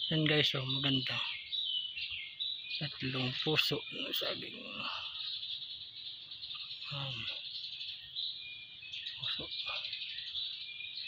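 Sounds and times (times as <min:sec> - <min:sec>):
high-pitched insect chorus: 0:00.0 - 0:11.0
short bird chirps: 0:00.0 - 0:11.0.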